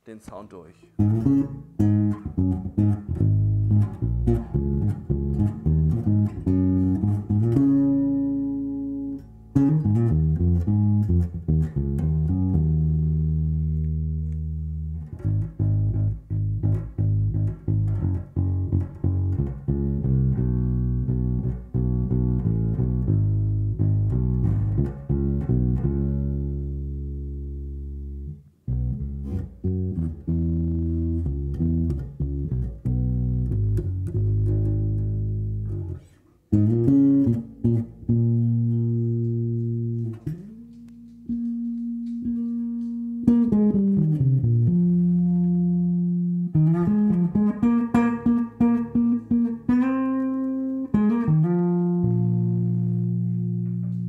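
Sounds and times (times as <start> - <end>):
electric bass playing: 0.3 - 54.0.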